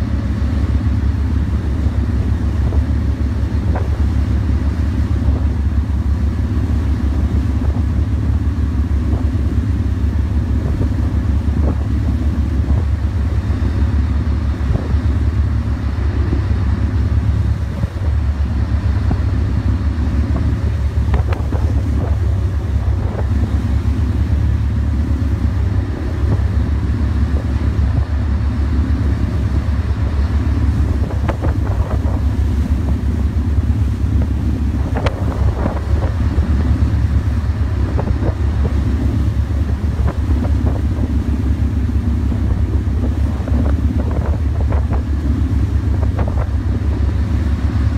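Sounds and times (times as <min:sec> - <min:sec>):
boat engine droning: 0:00.0 - 0:47.9
faint water splashes: 0:00.0 - 0:47.9
wind on microphone: 0:00.1 - 0:47.9.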